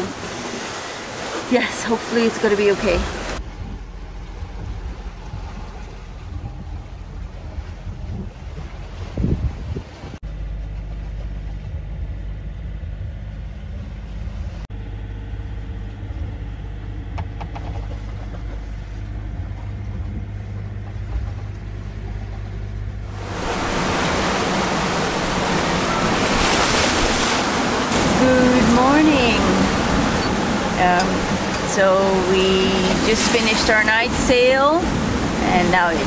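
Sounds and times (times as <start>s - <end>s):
wind and waves on rough sea: 0.0s - 14.6s, 16.2s - 36.0s
boat engine droning: 0.0s - 36.0s.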